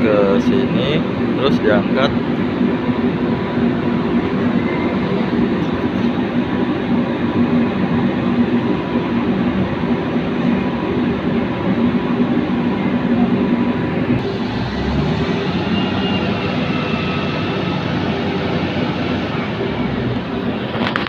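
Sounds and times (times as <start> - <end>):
heavy machinery low drone: 0.0 - 21.0.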